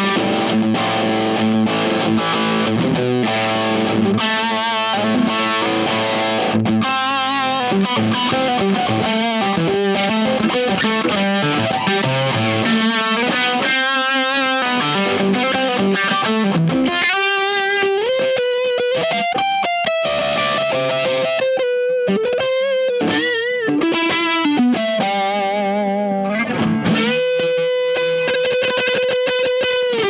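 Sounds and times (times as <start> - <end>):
fuzzy electric guitar lead: 0.0 - 30.0.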